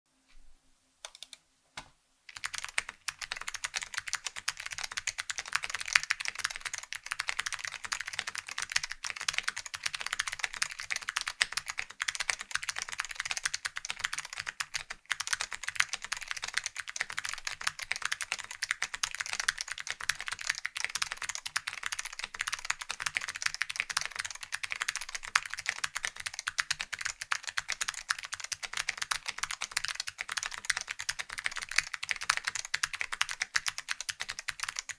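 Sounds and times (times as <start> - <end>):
clicky mechanical keyboard typing: 1.0 - 1.4, 2.3 - 34.9.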